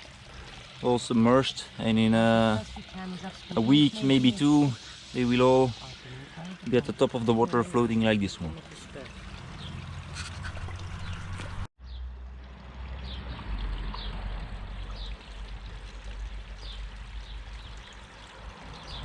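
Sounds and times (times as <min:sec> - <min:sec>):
water pouring into a pond: 0:00.0 - 0:19.0.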